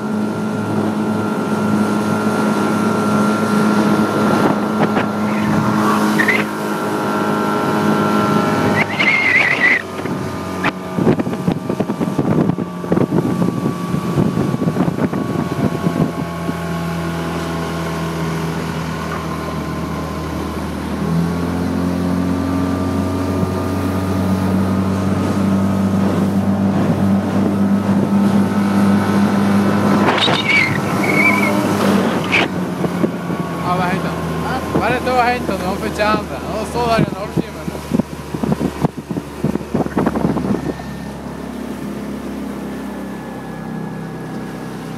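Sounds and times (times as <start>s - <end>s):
motorboat engine running: 0.0s - 44.9s
wind buffeting microphone: 0.0s - 44.9s.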